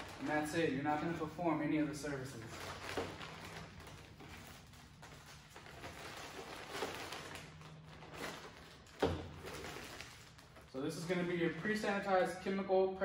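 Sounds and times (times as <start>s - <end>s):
plastic bag rustling: 0.0s - 12.3s.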